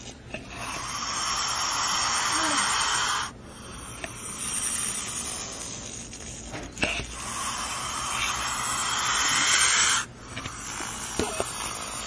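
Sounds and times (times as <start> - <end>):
snake hissing: 0.4 - 12.0.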